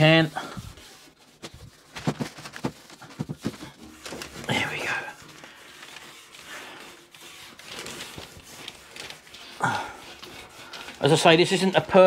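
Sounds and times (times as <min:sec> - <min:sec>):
cloth rubbing on metal: 0:00.0 - 0:12.0.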